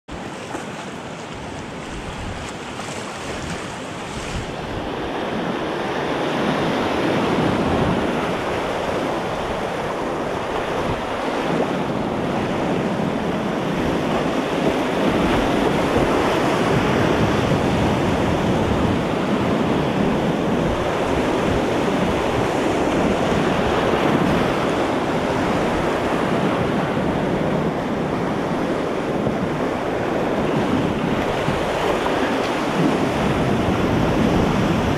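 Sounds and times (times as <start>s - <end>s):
whitewater rapid rushing: 0.1s - 34.9s.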